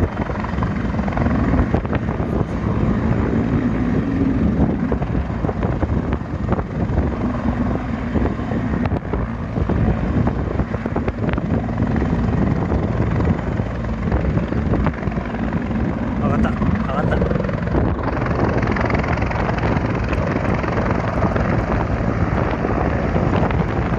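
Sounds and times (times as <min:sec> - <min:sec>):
helicopter rotor and engine noise: 0:00.0 - 0:23.9.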